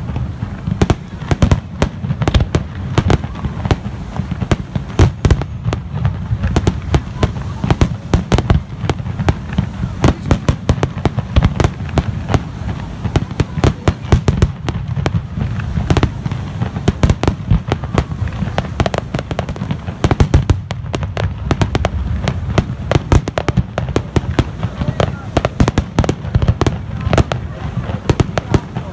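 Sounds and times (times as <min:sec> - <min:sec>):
fireworks bursting: 0:00.0 - 0:28.9.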